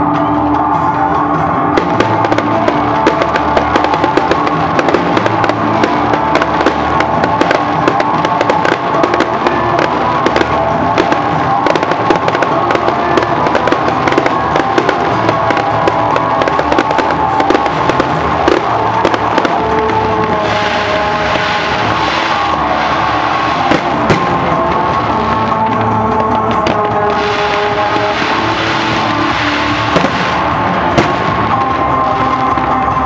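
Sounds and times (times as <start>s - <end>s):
music playing: 0.0s - 33.0s
fireworks crackling and popping: 1.7s - 33.0s.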